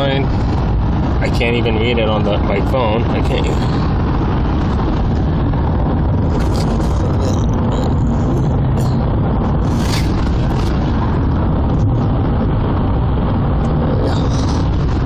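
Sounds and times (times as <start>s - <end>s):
car rumble inside cabin: 0.0s - 15.0s.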